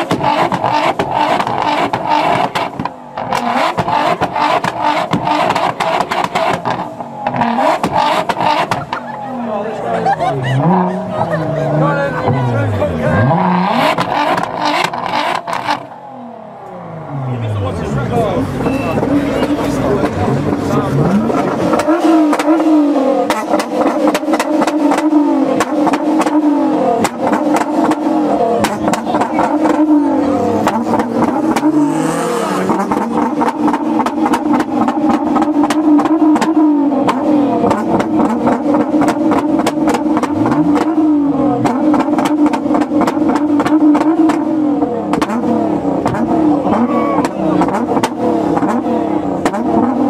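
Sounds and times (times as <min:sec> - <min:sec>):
exhaust pops and bangs: 0:00.0 - 0:09.0, 0:13.9 - 0:15.9, 0:19.0 - 0:30.0, 0:30.6 - 0:31.8, 0:32.6 - 0:50.0
car engine revving: 0:00.0 - 0:50.0.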